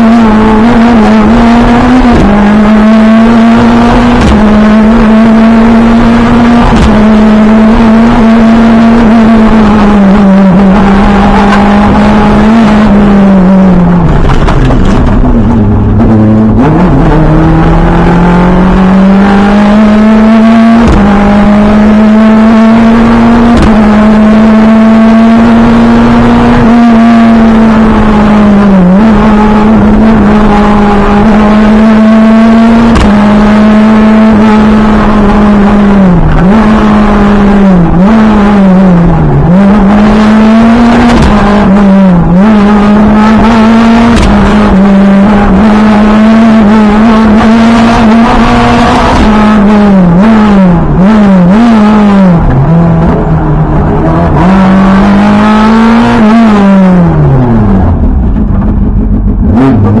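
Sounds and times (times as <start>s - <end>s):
rally car engine revving: 0.0s - 60.0s.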